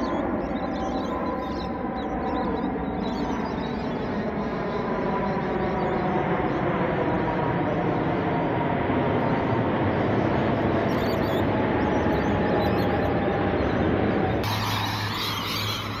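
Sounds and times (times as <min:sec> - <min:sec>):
jet airliner roaring overhead: 0:00.0 - 0:16.0
jet engine whine: 0:00.0 - 0:16.0.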